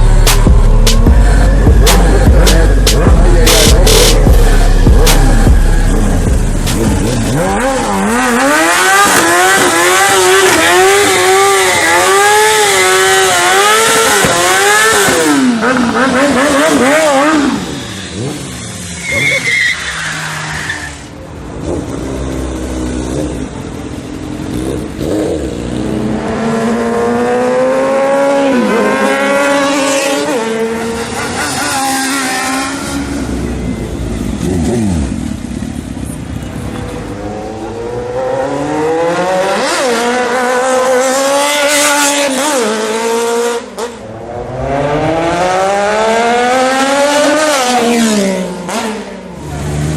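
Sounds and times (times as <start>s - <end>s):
motorcycle engines revving: 0.0s - 49.9s.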